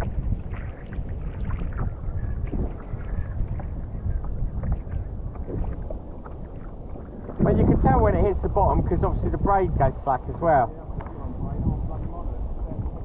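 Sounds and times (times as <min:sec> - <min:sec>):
water knocking and splashing on hull: 0:00.0 - 0:13.0
wind buffeting microphone: 0:00.0 - 0:13.0.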